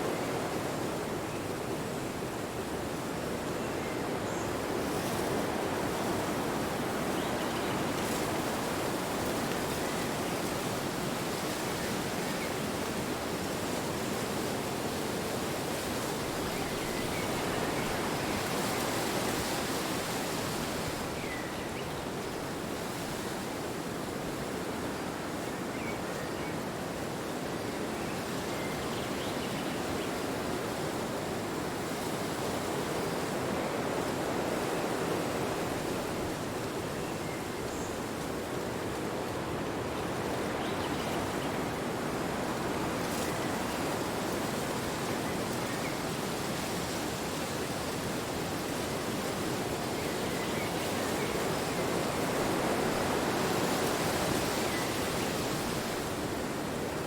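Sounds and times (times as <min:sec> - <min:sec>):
wind blowing in gusts: 0:00.0 - 0:57.0.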